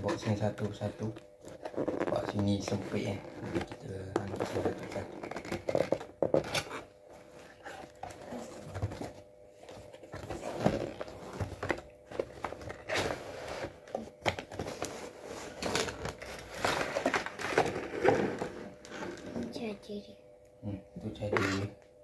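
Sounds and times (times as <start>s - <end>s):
cardboard scraping and rustling: 1.4s - 19.5s.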